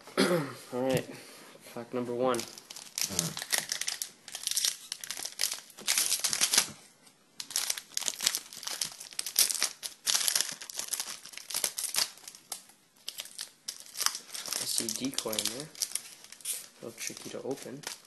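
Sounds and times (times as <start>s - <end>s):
card pack wrapper crinkling and tearing: 2.3s - 6.8s, 7.4s - 18.0s.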